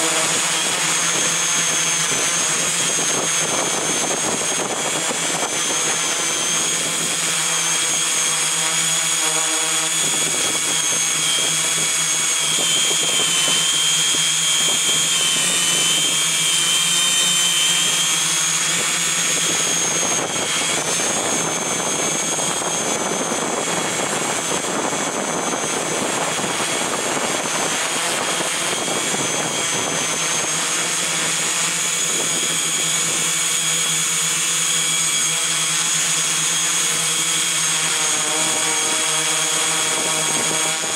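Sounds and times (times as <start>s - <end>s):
drone propellers whining: 0.0s - 40.9s.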